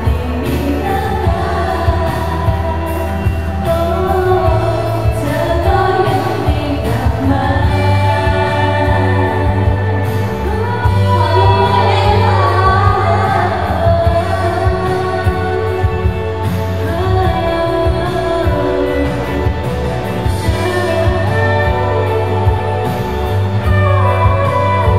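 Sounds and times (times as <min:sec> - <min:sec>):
pop backing track with bass: 0:00.0 - 0:24.9
woman singing pop vocals: 0:00.0 - 0:24.9.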